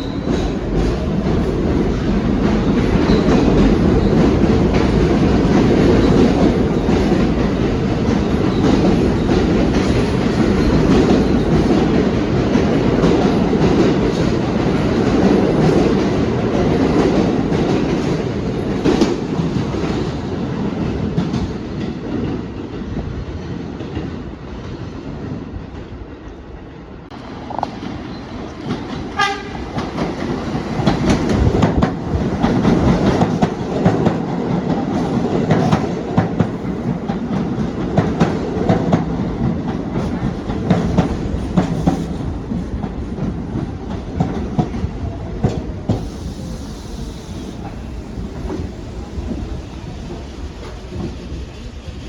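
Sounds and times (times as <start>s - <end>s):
subway train rumbling: 0.0s - 52.0s.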